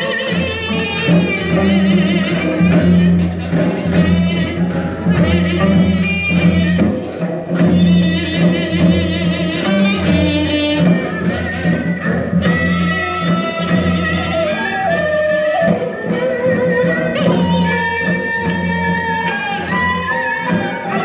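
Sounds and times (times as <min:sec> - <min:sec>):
traditional ensemble music: 0:00.0 - 0:21.0.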